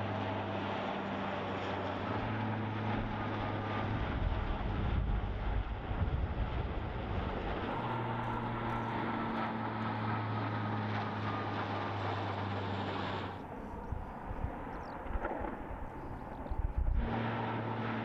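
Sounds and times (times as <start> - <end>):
rough engine rumble: 0.0 - 18.0
turboprop aircraft droning overhead: 0.0 - 18.0.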